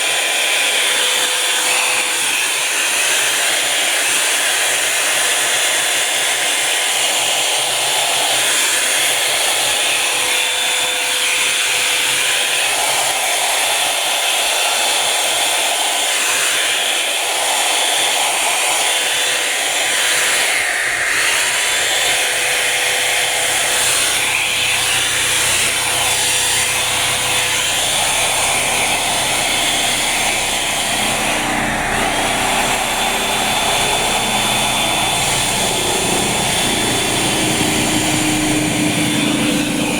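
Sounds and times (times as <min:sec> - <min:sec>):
hair dryer whining: 0:00.0 - 0:39.9.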